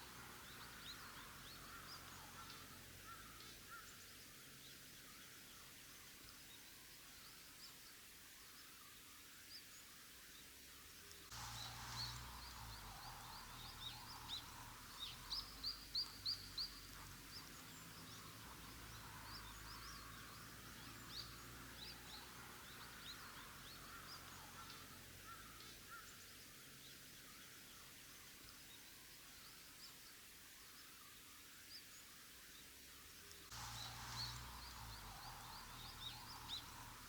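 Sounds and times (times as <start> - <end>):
birds chirping: 0.0 - 7.4, 11.0 - 30.0, 32.6 - 37.0
faint steady background noise: 0.0 - 37.0.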